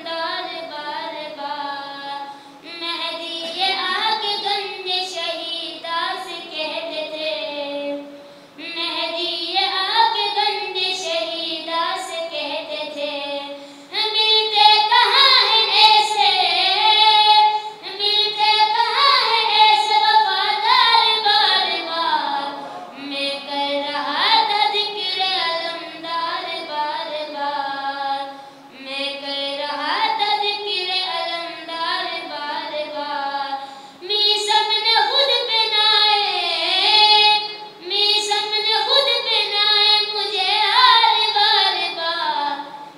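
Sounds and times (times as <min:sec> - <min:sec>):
boy singing devotional song: 0:00.0 - 0:42.9.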